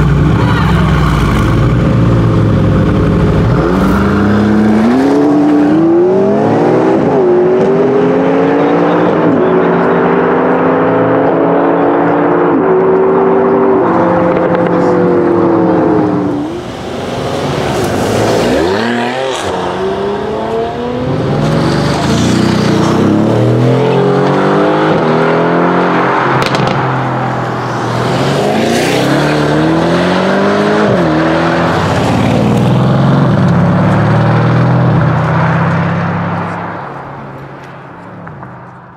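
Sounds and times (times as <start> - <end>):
cars accelerating away: 0.0 - 37.5.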